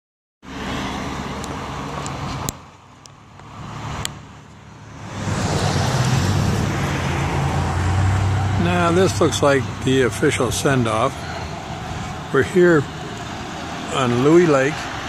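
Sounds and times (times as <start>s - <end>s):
motor vehicle engine hum: 0.4s - 15.0s
road traffic noise: 0.4s - 15.0s.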